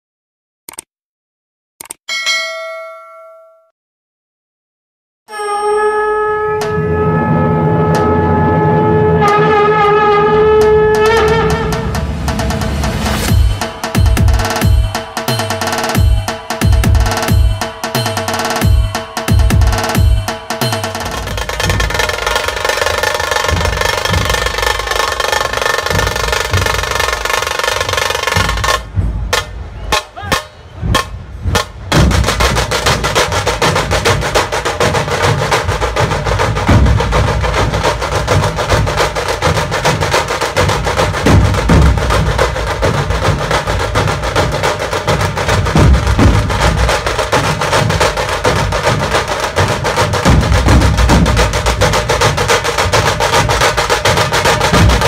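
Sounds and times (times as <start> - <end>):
fast dense drumming: 9.2 - 55.0.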